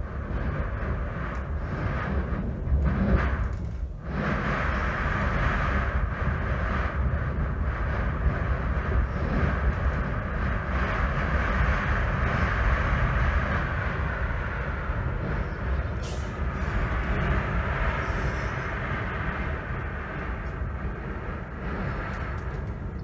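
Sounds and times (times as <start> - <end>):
blizzard wind rushing: 0.0 - 23.0
wind buffeting microphone: 0.0 - 23.0.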